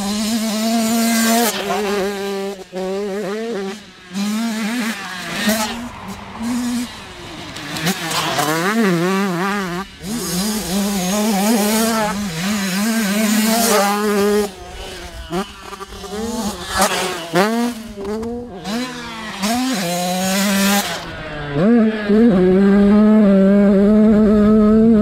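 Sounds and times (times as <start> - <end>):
motocross bike engine revving: 0.0 - 25.0.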